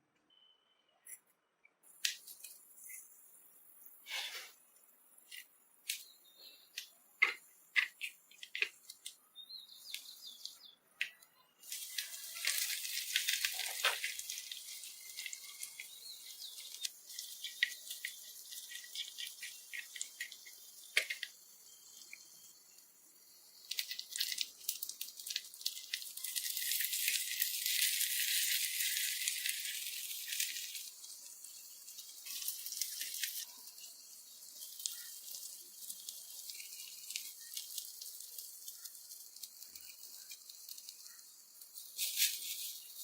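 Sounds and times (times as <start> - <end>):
food crackling in a pan: 1.8 - 43.0
small utensils clicking: 6.7 - 43.0.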